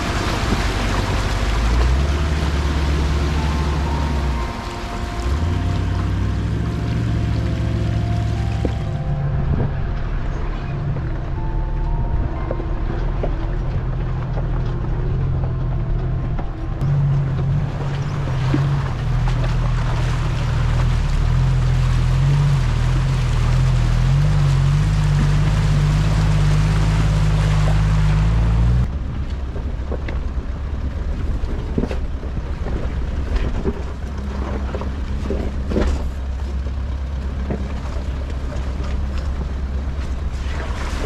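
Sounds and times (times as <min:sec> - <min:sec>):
engine running under load: 0:00.0 - 0:41.0.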